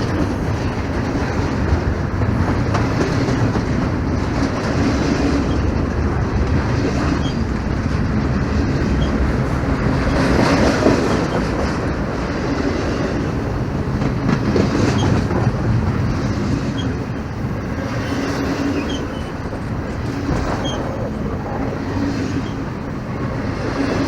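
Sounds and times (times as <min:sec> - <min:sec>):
freight train rumbling past: 0:00.0 - 0:24.0
train wheel clatter: 0:00.0 - 0:24.0.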